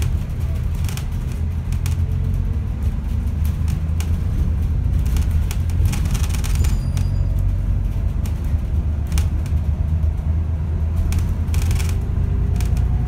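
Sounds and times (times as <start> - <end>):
bus body rattling: 0.0 - 13.0
bus rumbling on the move: 0.0 - 13.0.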